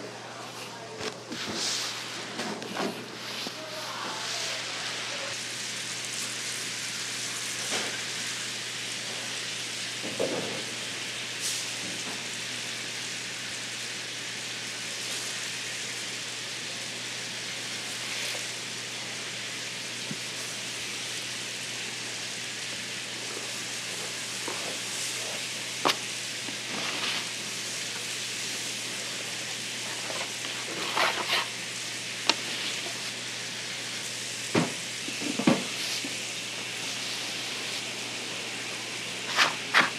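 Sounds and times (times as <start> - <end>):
oil sizzling in a deep fryer: 0.0 - 39.9.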